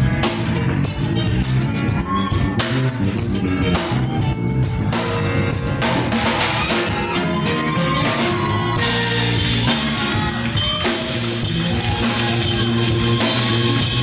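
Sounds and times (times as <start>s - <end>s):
instrumental live band: 0.0s - 14.0s.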